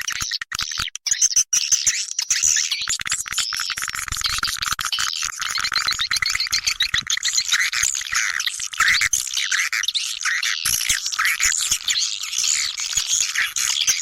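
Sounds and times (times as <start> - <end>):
recorded bird chirps and trills: 0.0 - 14.0.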